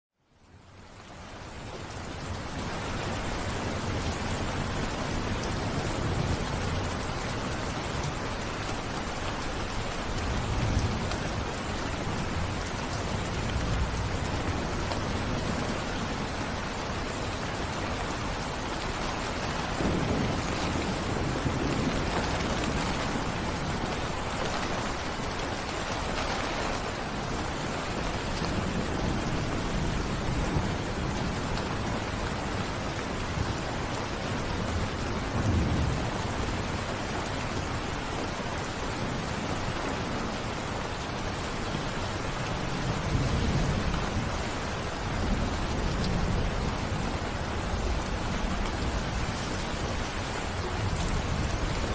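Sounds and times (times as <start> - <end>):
heavy rain falling: 0.2 - 51.9.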